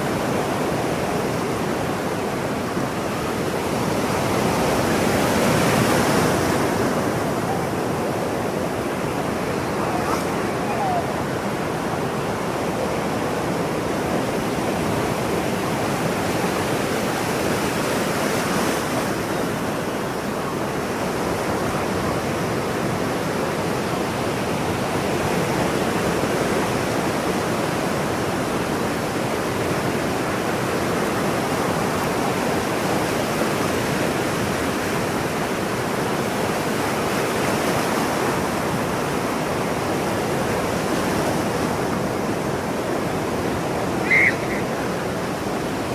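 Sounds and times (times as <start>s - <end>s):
waves breaking: 0.0s - 45.9s.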